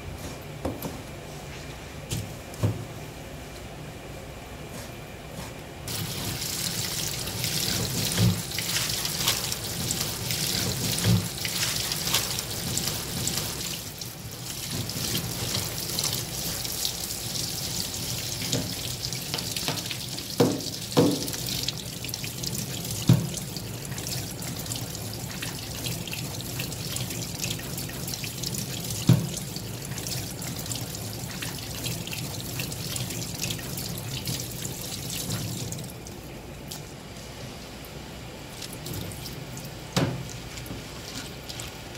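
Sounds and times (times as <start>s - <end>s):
tap water running into a sink: 5.9s - 36.9s, 38.5s - 41.9s.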